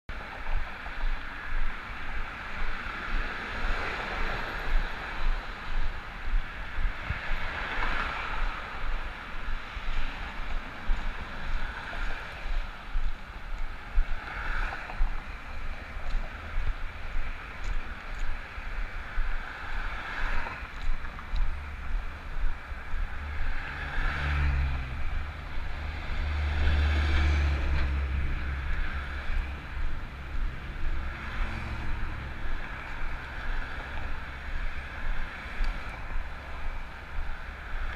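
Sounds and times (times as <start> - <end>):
cars passing: 0.1 - 37.9
low engine hum: 0.1 - 37.9
wind buffeting microphone: 0.1 - 37.9.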